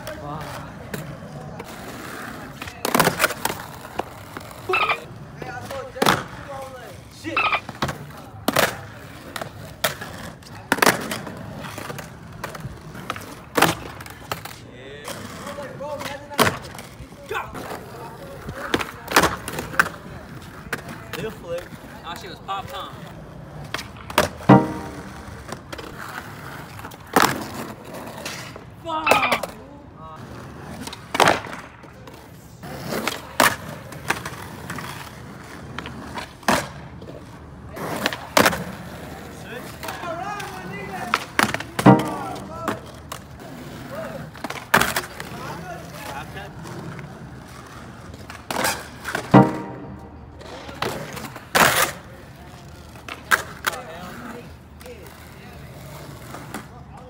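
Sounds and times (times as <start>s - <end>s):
skateboard clacks on concrete: 0.0s - 57.0s
skateboard wheels rolling: 0.0s - 57.0s.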